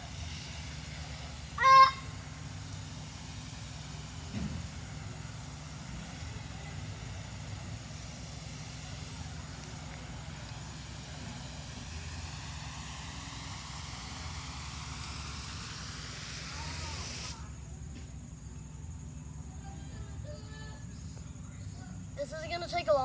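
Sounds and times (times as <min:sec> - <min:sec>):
water spraying from hose: 0:00.0 - 0:17.8, 0:22.2 - 0:23.0.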